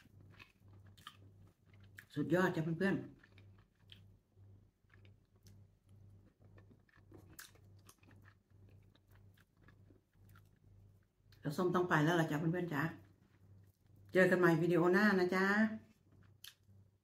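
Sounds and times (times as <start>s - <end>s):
faint chewing: 0.0s - 11.5s, 13.0s - 14.2s, 15.8s - 17.0s.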